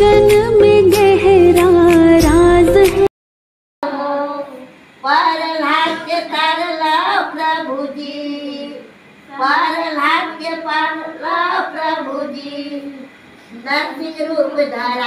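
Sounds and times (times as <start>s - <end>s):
women singing unaccompanied: 0.0s - 3.1s, 3.8s - 15.0s.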